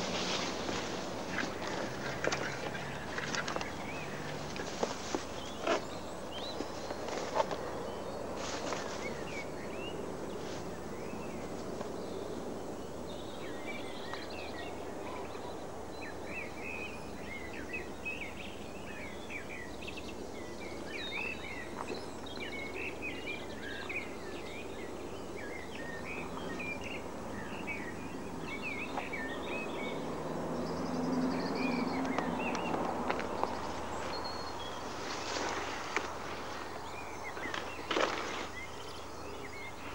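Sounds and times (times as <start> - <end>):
low outdoor noise: 0.0 - 39.9
small birds chirping: 0.0 - 39.9.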